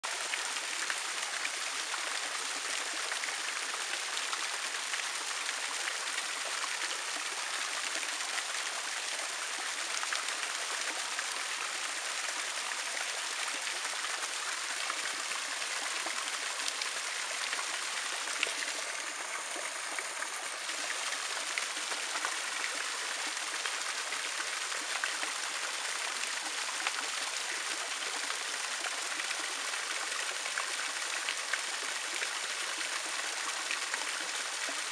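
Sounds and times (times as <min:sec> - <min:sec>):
waterfall splashing into pool: 0:00.0 - 0:34.9.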